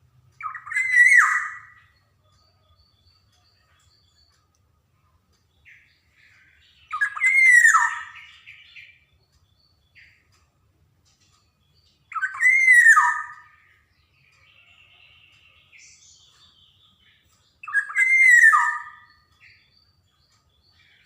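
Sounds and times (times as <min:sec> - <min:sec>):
bird whistling song: 0:00.4 - 0:04.4, 0:05.6 - 0:10.3, 0:11.5 - 0:21.0.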